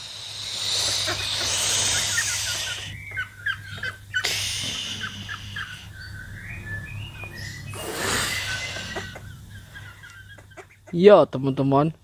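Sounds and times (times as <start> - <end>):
duckling peeping: 0.1 - 11.2.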